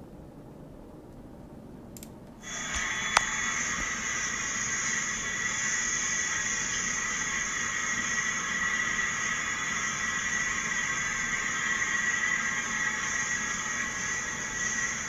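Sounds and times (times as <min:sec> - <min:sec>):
steady hissing noise: 0:00.0 - 0:15.0.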